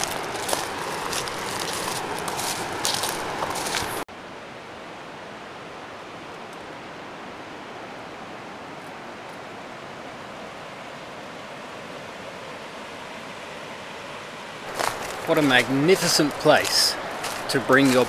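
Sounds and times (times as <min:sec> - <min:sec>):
river water rushing over rapids: 0:00.0 - 0:18.0.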